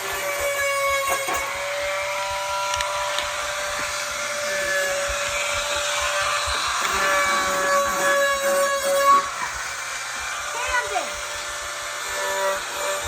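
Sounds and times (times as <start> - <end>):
power tool motor whine: 0.0 - 13.0.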